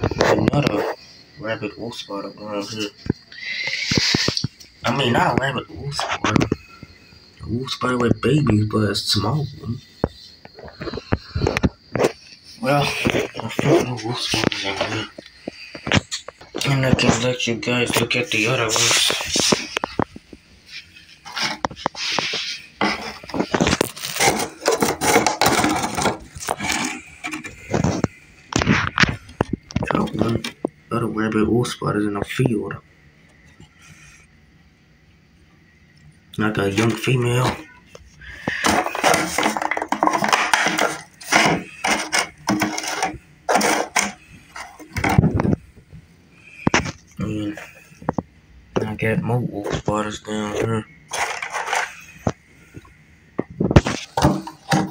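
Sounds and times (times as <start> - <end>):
plastic containers rubbing and clicking: 0.0 - 1.0, 2.6 - 7.0, 9.2 - 30.8, 36.4 - 54.9
plastic lids crinkling and clattering: 0.0 - 1.0, 2.7 - 7.0, 10.0 - 30.8, 36.5 - 54.9.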